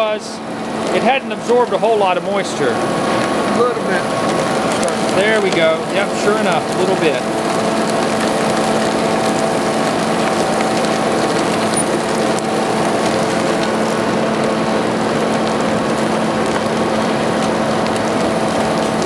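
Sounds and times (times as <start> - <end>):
screw press machine hum: 0.0 - 19.0.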